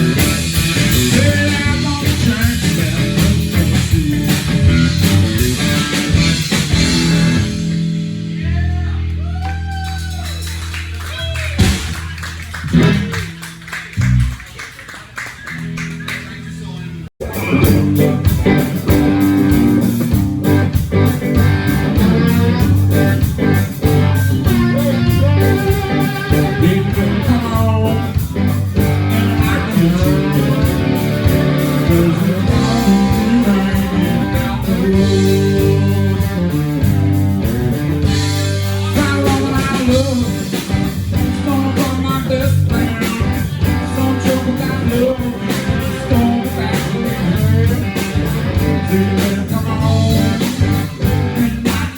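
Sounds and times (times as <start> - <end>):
electric guitar: 0.0 - 14.4, 15.4 - 51.9
blues-rock band playing: 0.0 - 51.9.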